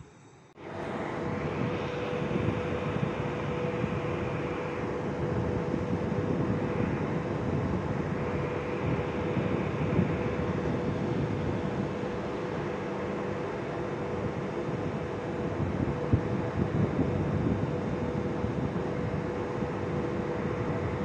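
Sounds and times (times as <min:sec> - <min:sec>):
train equipment humming: 0:00.0 - 0:21.0.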